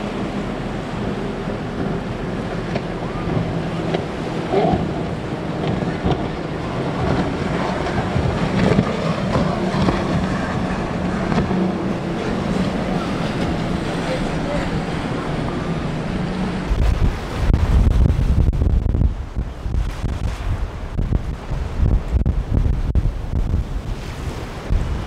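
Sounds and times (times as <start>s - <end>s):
outboard engines droning: 0.0s - 25.0s
spray and breaking waves: 0.0s - 25.0s
wind buffeting microphone: 0.0s - 25.0s.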